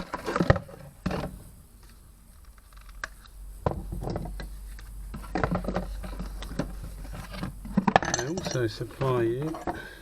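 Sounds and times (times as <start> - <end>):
parts knocking and rustling: 0.0 - 10.0.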